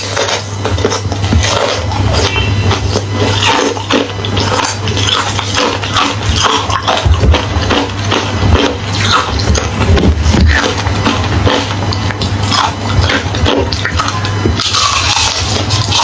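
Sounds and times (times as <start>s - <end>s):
low hum: 0.0s - 16.0s
person chewing ice: 0.0s - 16.0s.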